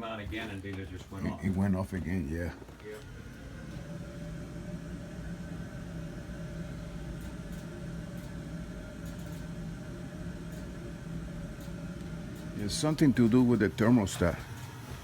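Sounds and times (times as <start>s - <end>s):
furnace fan motor humming: 0.0s - 15.0s.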